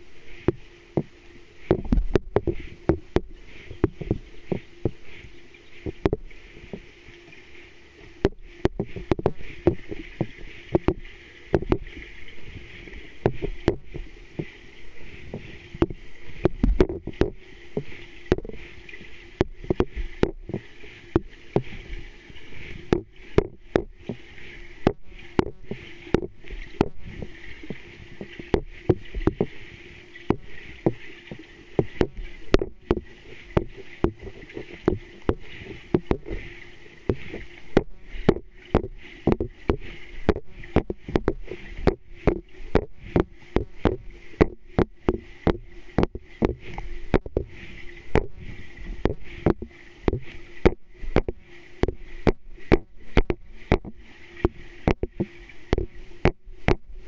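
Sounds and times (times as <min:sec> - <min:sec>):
steady underwater hum: 0:00.0 - 0:57.0
underwater clicks and thumps: 0:00.0 - 0:57.0.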